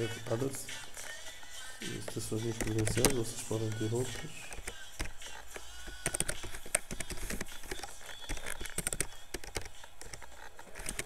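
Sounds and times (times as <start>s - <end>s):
computer keyboard typing: 1.8s - 11.0s.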